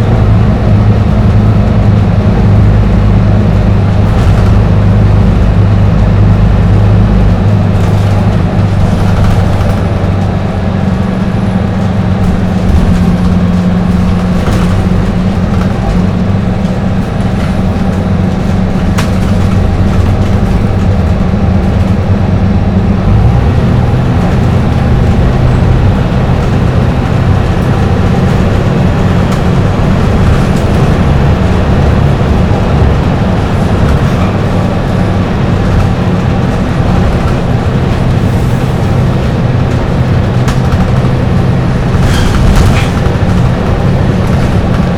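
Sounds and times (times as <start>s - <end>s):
bus diesel engine droning: 0.0s - 44.9s
tyre and road noise: 0.0s - 44.9s.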